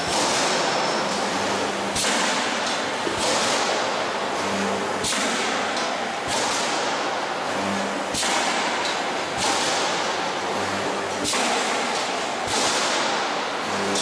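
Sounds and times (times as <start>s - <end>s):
steady machine noise: 0.0s - 14.0s.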